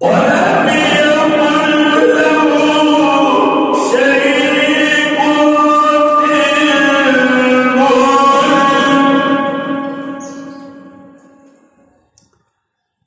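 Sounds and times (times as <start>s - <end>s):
man chanting melodically: 0.0s - 11.7s.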